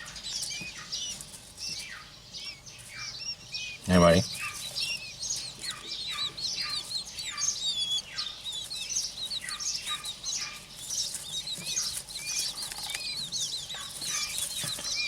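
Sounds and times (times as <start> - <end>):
quail chicks peeping: 0.0 - 15.0.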